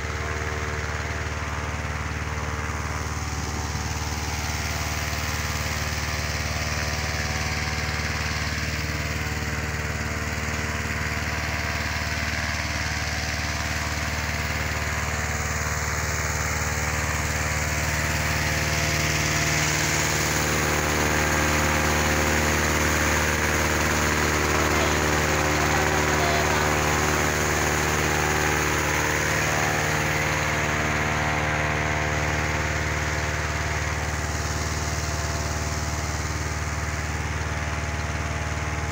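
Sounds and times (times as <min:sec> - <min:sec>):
engine-driven fan running: 0:00.0 - 0:38.9.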